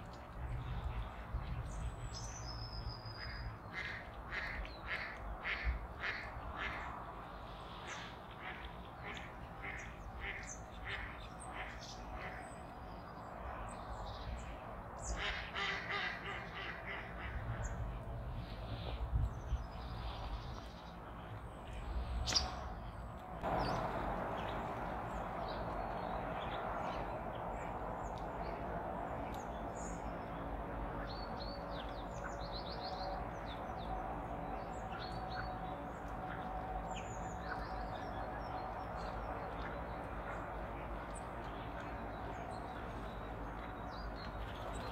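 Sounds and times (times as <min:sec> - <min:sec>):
songbirds chirping: 0:00.0 - 0:44.9
steady background noise: 0:00.0 - 0:44.9.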